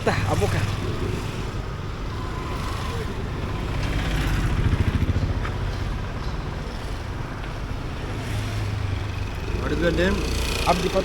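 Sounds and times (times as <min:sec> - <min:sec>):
street traffic: 0:00.0 - 0:11.0
vehicle engine rumbling: 0:00.0 - 0:11.0.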